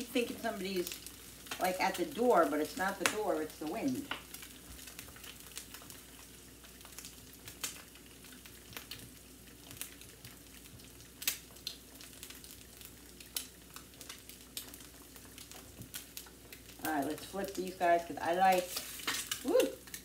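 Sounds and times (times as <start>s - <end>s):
eggs sizzling in oil: 0.0s - 20.0s
sharp crackling pops: 0.0s - 20.0s.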